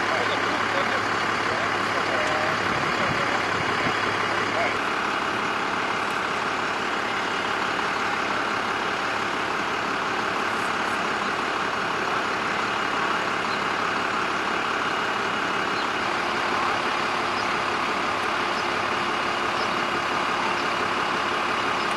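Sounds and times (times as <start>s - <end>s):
large engine idling: 0.0s - 21.9s.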